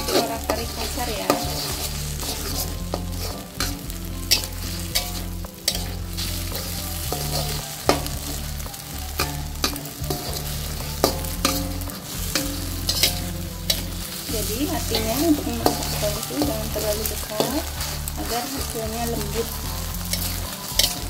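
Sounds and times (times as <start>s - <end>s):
eggs sizzling in hot oil: 0.0s - 21.0s
metal spatula scraping and tapping: 0.0s - 21.0s.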